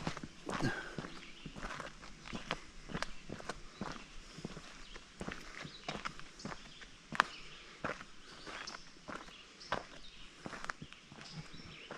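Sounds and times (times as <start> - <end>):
footsteps on trail: 0.0 - 11.9.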